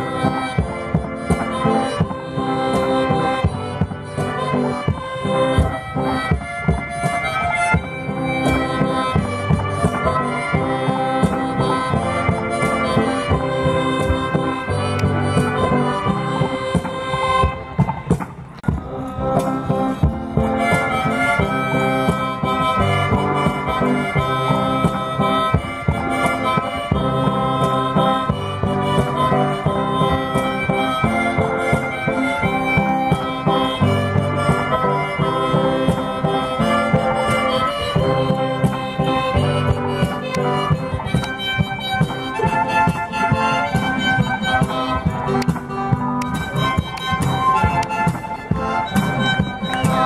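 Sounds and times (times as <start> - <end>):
harmonica melody: 0.0 - 50.0
strummed guitar: 0.0 - 50.0.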